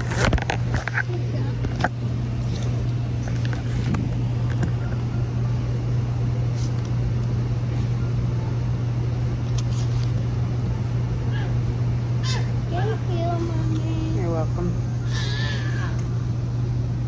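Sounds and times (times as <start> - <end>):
constant background noise: 0.0 - 17.0
low mechanical hum: 0.0 - 17.0.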